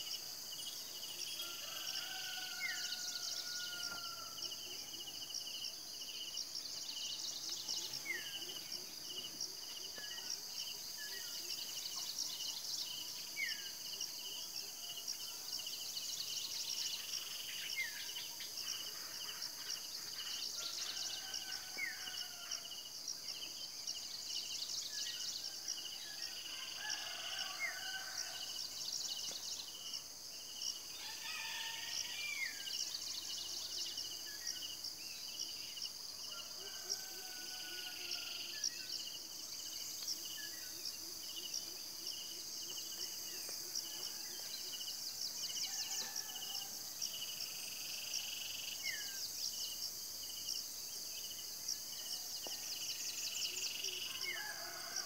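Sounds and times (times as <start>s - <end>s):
insects trilling: 0.0s - 55.0s
lower insect chirping: 0.0s - 55.0s.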